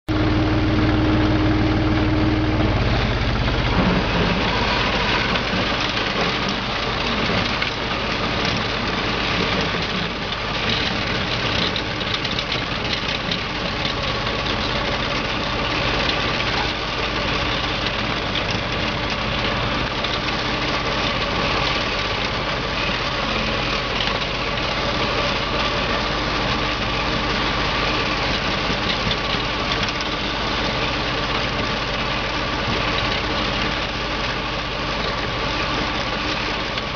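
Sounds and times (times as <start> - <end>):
plough blade pushing snow: 0.1 - 36.9
plough vehicle engine running: 0.1 - 36.9.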